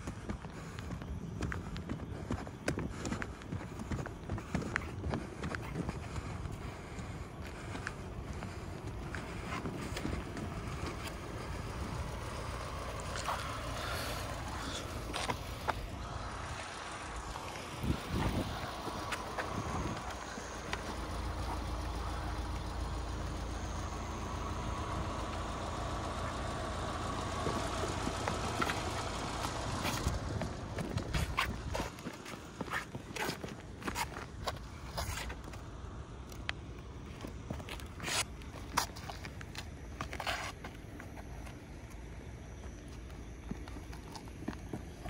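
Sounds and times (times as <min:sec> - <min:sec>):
car idling: 0:00.0 - 0:45.0
footsteps and scuffs on road: 0:00.0 - 0:45.0.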